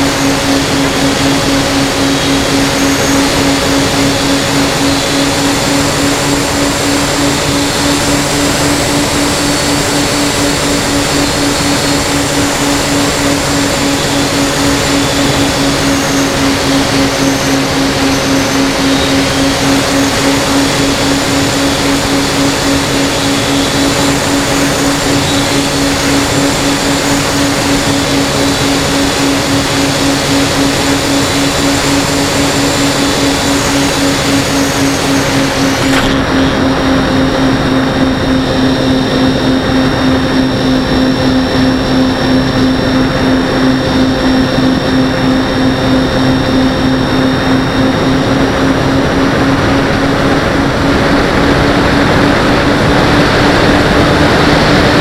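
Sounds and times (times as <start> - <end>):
propeller motor droning: 0.0 - 55.0.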